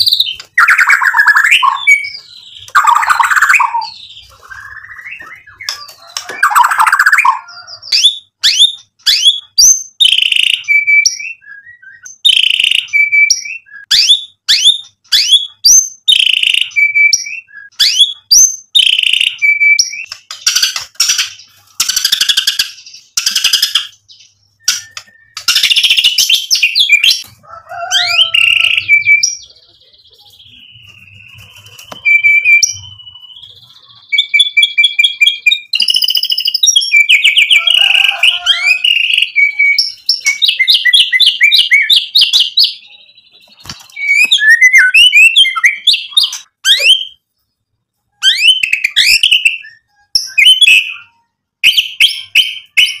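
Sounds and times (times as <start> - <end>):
bird singing varied song: 0.0 - 53.0.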